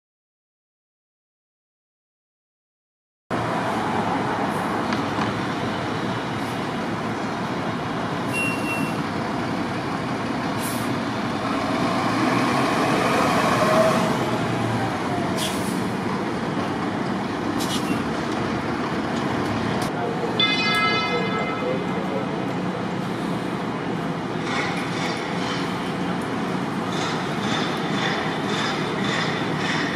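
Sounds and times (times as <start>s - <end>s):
heavy truck engines and road rumble: 3.3s - 29.9s.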